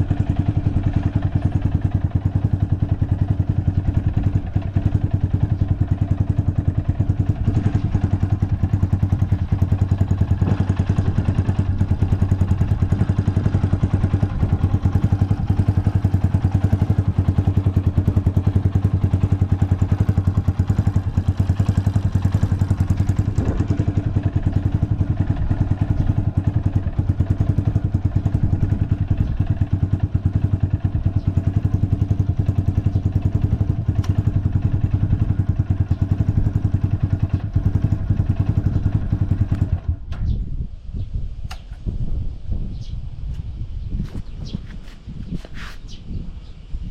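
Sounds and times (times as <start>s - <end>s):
motorcycle engine idling: 0.0s - 40.5s.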